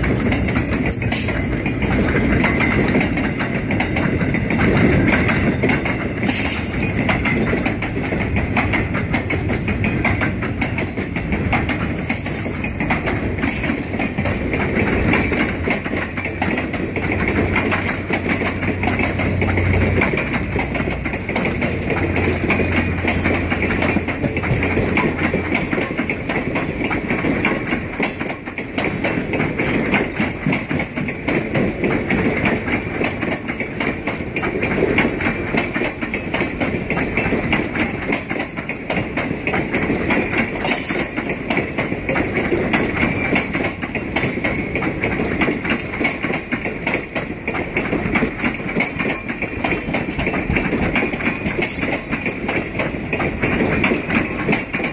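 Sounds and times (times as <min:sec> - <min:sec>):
train wheels rumbling and clattering: 0:00.0 - 0:54.9.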